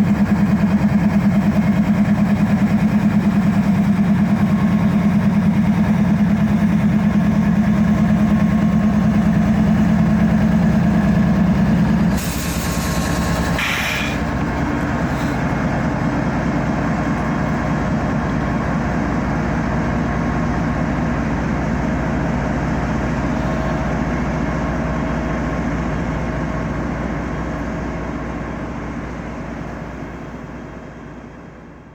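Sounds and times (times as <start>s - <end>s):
train rumbling past: 0.0s - 31.4s.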